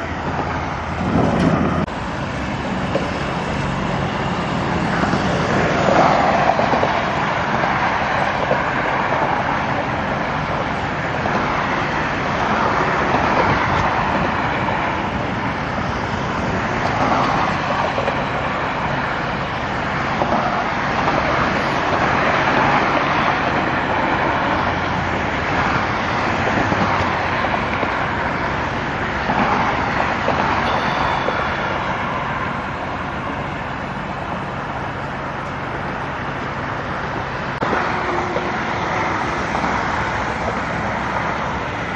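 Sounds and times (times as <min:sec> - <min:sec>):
engine hum: 0:00.0 - 0:41.9
road traffic noise: 0:00.0 - 0:41.9.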